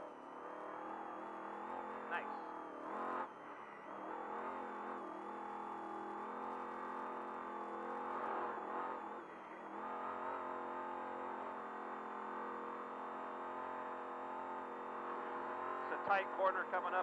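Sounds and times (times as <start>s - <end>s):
race engine at high revs: 0.0s - 17.0s.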